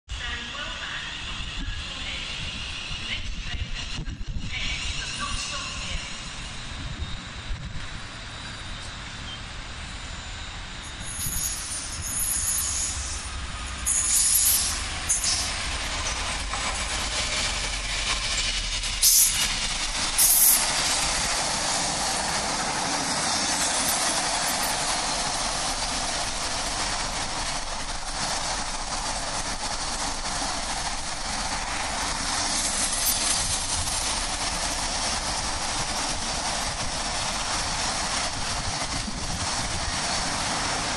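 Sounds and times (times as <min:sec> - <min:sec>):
freight train passing: 0:00.1 - 0:40.9
wheels rolling on rails: 0:07.8 - 0:40.9.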